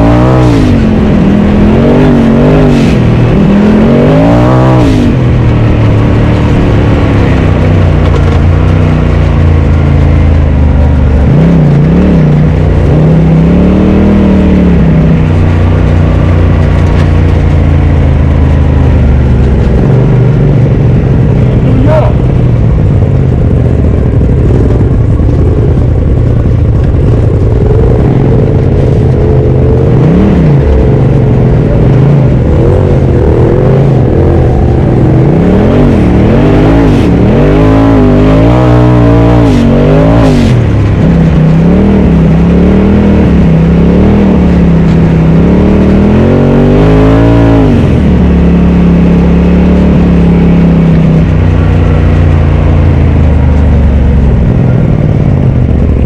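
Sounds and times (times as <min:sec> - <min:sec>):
off-road vehicle engine revving: 0:00.0 - 0:56.0.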